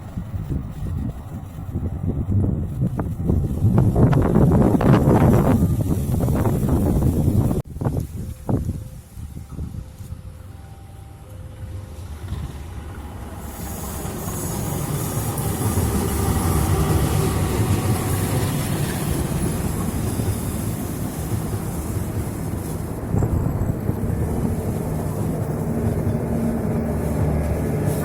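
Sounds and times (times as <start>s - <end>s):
diesel locomotive rumbling: 0.0s - 28.0s.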